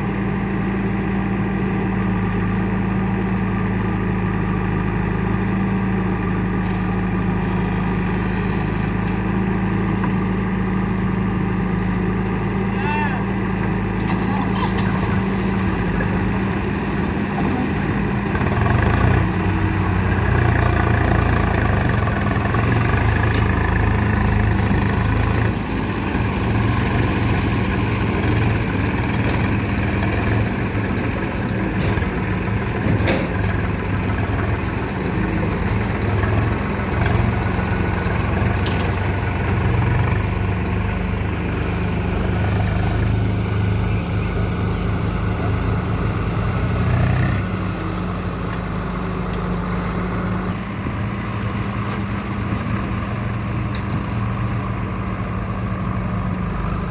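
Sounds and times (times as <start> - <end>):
heavy diesel engines running: 0.0 - 56.9.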